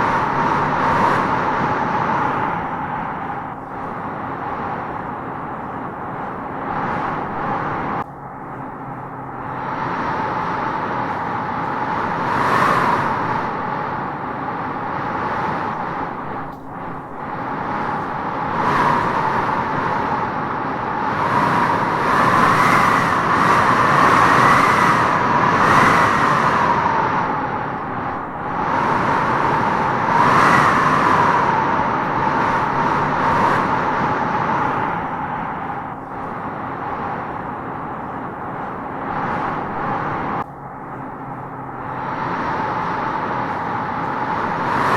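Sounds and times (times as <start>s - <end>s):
wind howling through trees: 0.0s - 44.9s.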